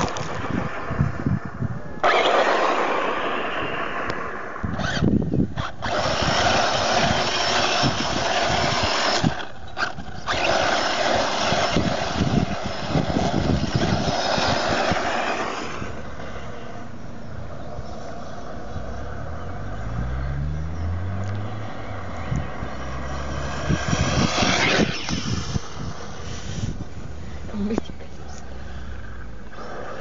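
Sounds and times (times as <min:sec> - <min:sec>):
electric motor whining: 0:00.0 - 0:17.1, 0:19.5 - 0:27.2.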